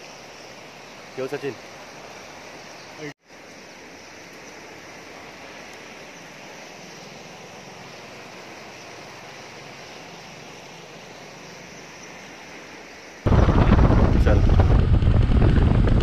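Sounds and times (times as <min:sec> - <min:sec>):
river rushing past piers: 0:00.0 - 0:15.1.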